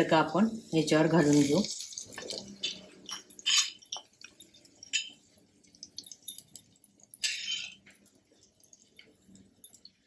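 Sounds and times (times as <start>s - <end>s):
hot oil crackling: 0.0s - 10.0s.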